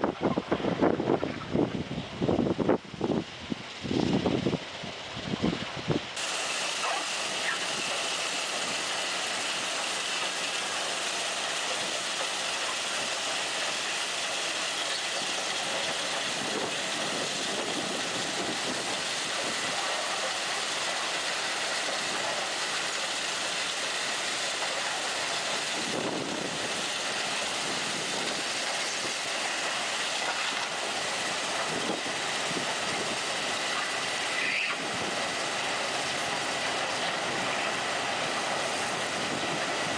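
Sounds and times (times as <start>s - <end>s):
rail machine working: 0.0s - 39.9s.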